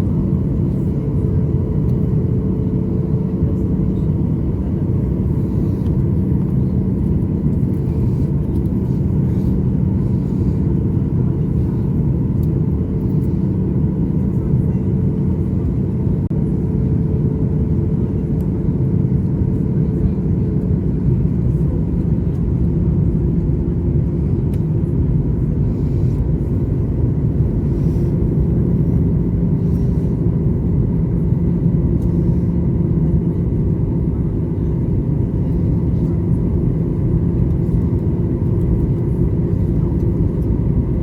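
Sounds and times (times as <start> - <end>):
airliner cabin engine drone: 0.0 - 41.0.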